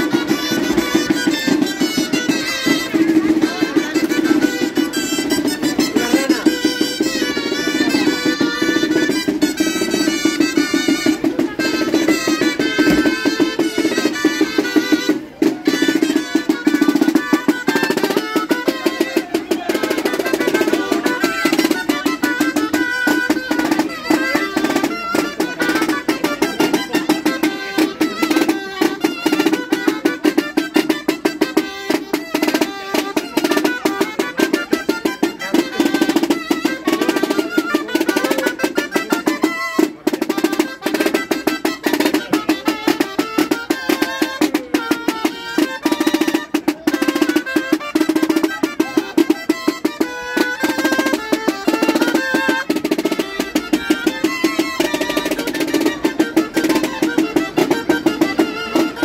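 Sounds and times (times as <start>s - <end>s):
pipe band playing parade tune: 0.0s - 59.0s
snare drum beat and rolls: 0.0s - 59.0s.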